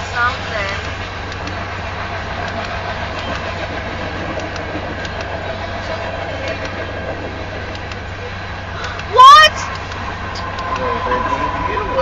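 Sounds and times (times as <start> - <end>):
freight train rolling past: 0.0 - 12.0
train wheel clicks: 0.6 - 10.9.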